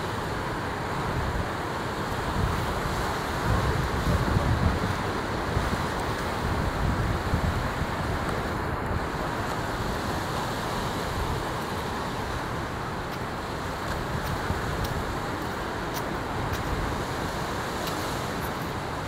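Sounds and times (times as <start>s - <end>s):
beach surf rushing: 0.0s - 19.0s.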